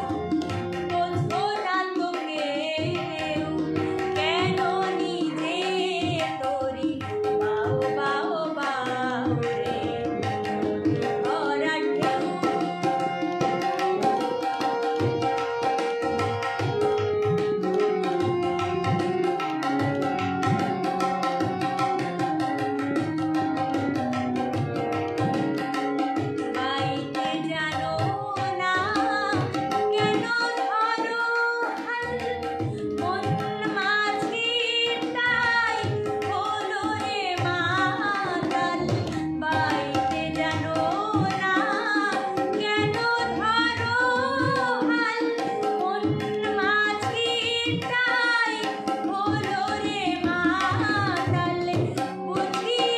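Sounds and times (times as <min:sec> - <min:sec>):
instrumental music with drums: 0:00.0 - 0:52.9
woman singing: 0:00.0 - 0:52.9.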